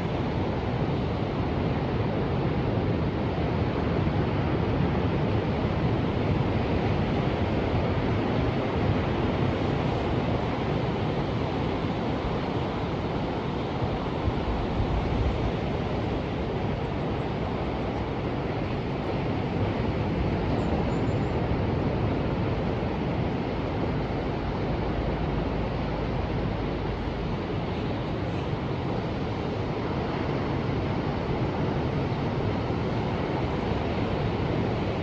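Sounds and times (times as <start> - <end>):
ocean surf rushing: 0.0 - 35.0.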